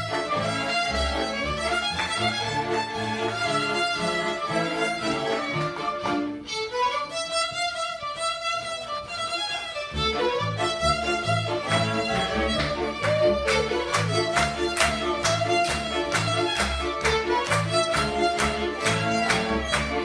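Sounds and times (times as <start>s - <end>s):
fiddle melody: 0.0s - 20.0s
pulsing low string accompaniment: 0.0s - 20.0s.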